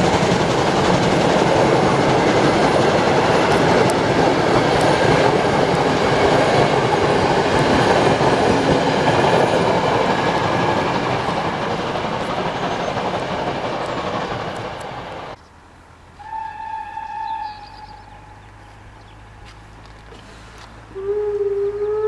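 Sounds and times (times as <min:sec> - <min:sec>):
train running past on rails: 0:00.0 - 0:22.0.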